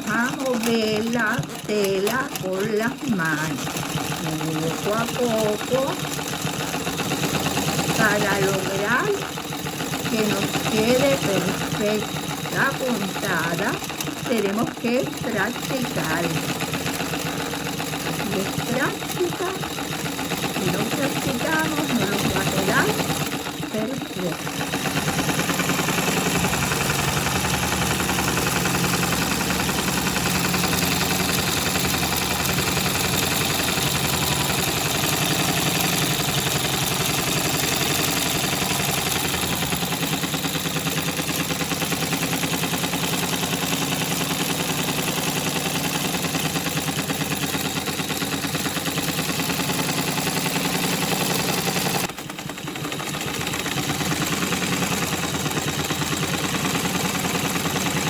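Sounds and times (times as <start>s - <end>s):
sewing machine stitching: 0.0s - 58.0s.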